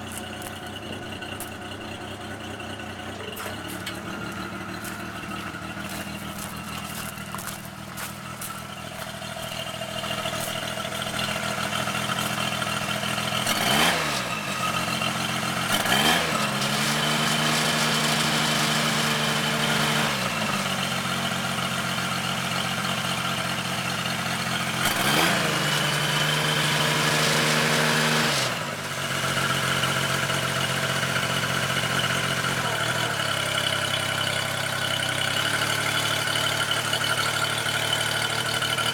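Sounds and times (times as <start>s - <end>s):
small engine idling and revving: 0.0s - 38.9s.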